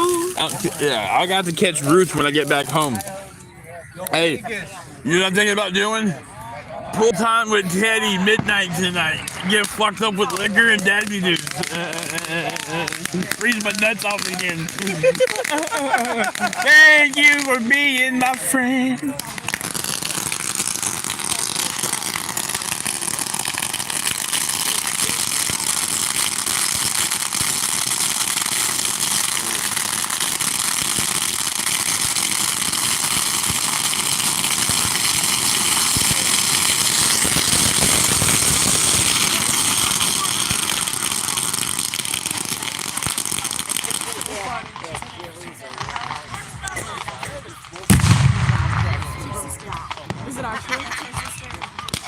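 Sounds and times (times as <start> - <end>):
firecrackers crackling: 0.0 - 52.0.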